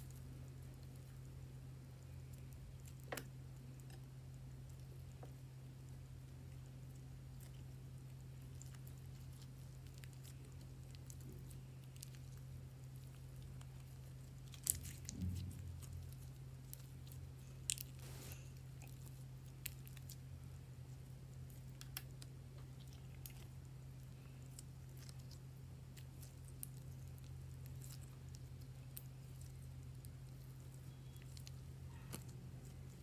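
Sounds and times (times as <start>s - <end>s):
steady low hum: 0.0s - 33.0s
sticky slime squishes: 0.0s - 33.0s.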